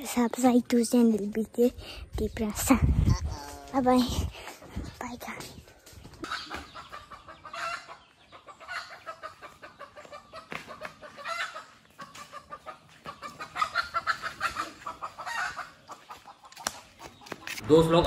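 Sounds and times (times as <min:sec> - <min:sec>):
chickens clucking: 0:02.8 - 0:17.6.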